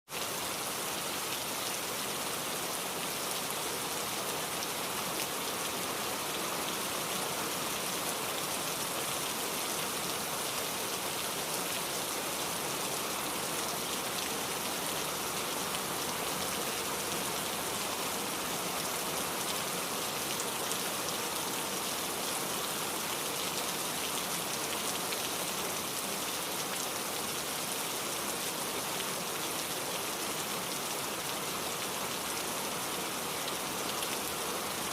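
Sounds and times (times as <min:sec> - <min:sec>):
steady rain hissing: 0:00.1 - 0:34.9.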